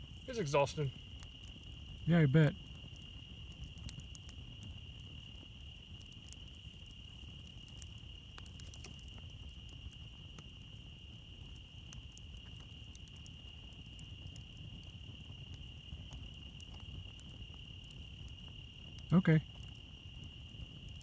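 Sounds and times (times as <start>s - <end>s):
campfire crackling: 0.0s - 21.0s
crickets trilling: 0.0s - 21.0s.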